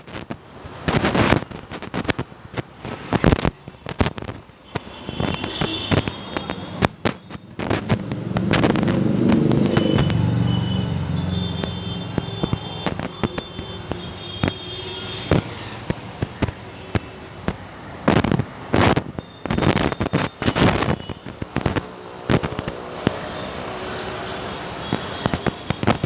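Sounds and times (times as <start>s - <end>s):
firecrackers banging and popping: 0.0s - 23.5s, 24.7s - 26.0s.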